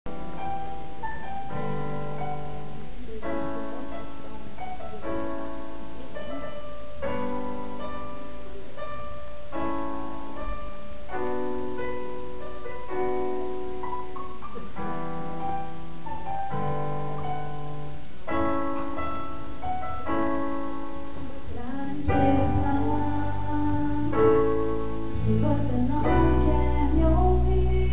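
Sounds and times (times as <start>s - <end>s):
piano playing slow chords: 0.1s - 27.9s.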